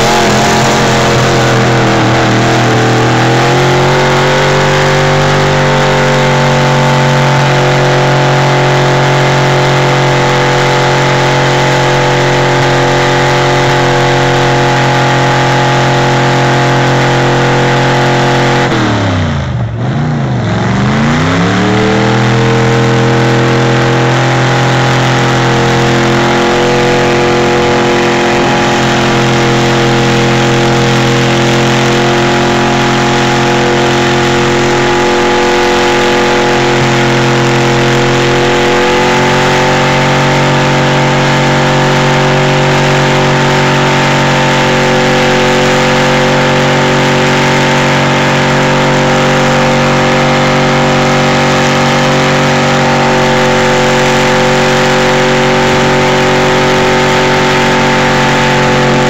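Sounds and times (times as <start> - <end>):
truck engine revving high: 0.0 - 59.0.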